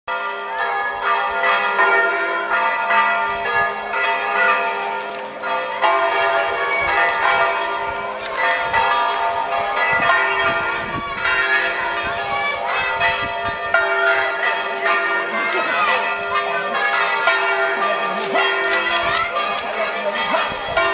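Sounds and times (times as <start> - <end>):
bells ringing: 0.1 - 20.9.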